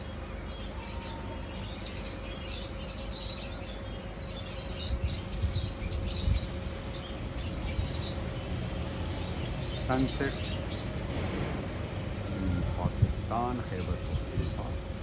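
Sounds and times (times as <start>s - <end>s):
cage birds chirping: 0.0s - 15.0s.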